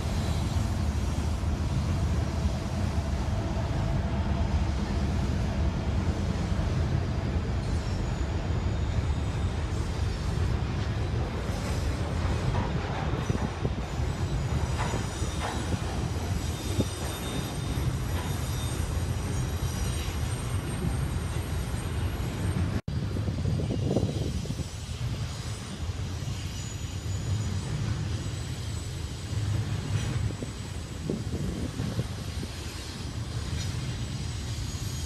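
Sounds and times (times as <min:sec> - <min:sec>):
faint high wheel squeal: 0:00.0 - 0:22.8, 0:23.6 - 0:35.0
train wheels rumbling on rail: 0:00.0 - 0:35.0.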